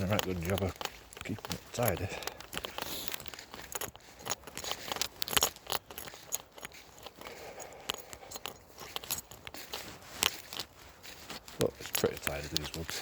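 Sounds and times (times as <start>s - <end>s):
keys jangling: 0.0s - 13.0s.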